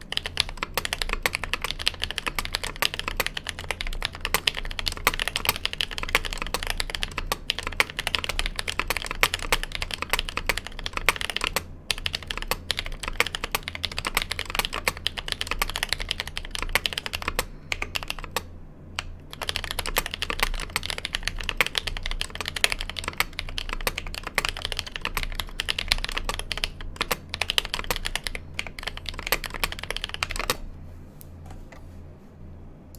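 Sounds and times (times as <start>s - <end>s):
fast mechanical keyboard typing: 0.0s - 30.6s.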